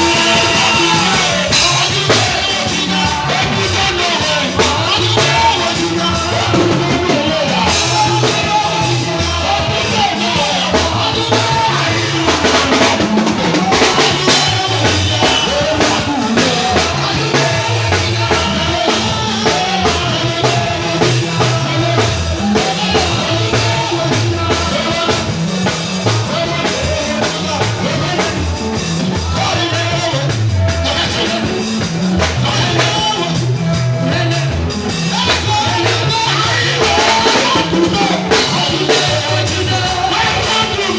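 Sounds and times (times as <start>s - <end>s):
drum kit beat: 0.0s - 40.9s
gospel worship music: 0.0s - 40.9s.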